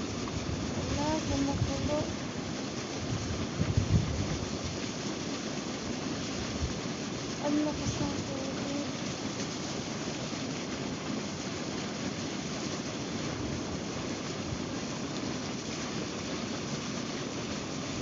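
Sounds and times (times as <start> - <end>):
hot spring water boiling: 0.0 - 18.0.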